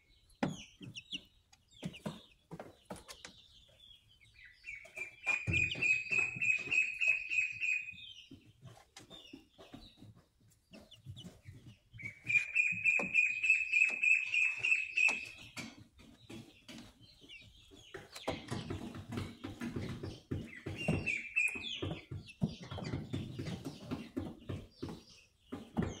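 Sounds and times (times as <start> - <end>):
chickens trilling: 0.0 - 26.0.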